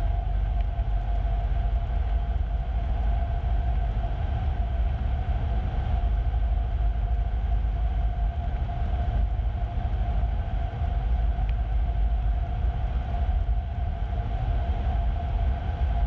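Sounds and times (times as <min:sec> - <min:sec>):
airplane engine and propeller drone: 0:00.0 - 0:16.0.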